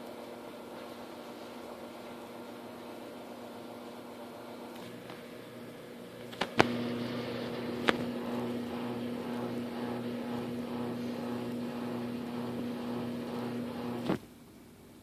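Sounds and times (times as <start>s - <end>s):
microwave oven humming: 0.0s - 14.4s.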